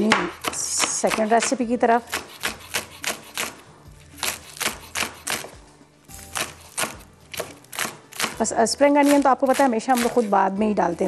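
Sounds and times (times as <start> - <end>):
knife chopping on wooden board: 0.0 - 3.6, 4.2 - 5.6, 6.2 - 10.3.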